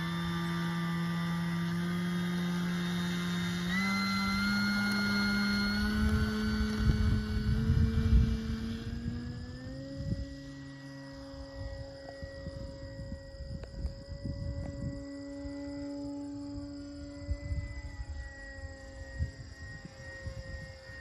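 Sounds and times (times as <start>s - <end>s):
electric plane motor whining: 0.0s - 21.0s.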